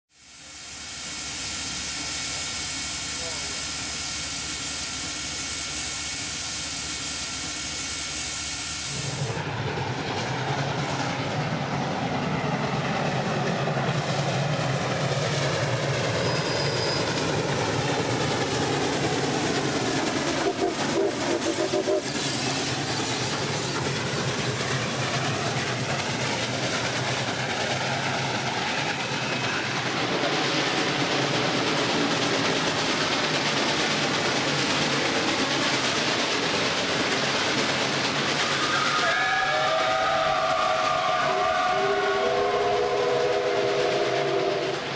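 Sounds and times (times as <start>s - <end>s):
steam hissing: 0.1s - 9.5s, 10.5s - 44.9s
steam locomotive running past: 0.1s - 44.9s.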